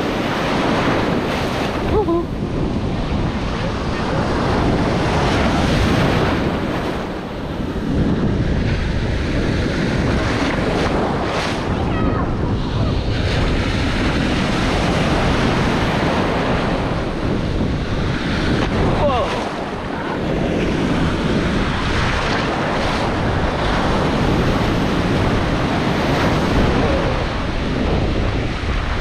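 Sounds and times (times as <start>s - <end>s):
surf breaking and foaming: 0.0s - 29.0s
wind buffeting microphone: 0.0s - 29.0s.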